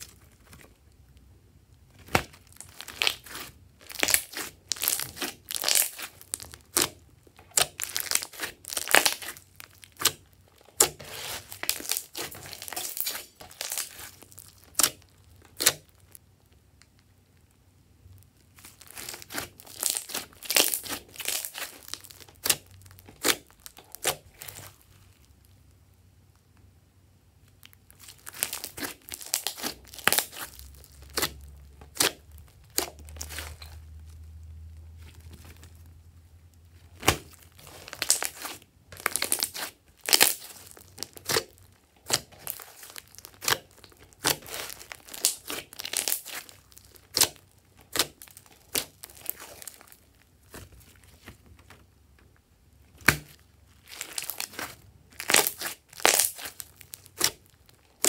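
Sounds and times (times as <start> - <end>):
slime popping and crackling: 0.0 - 17.5, 18.4 - 25.4, 27.5 - 36.0, 36.7 - 51.5, 52.8 - 58.0
slime squishing: 0.0 - 26.6, 27.4 - 58.0.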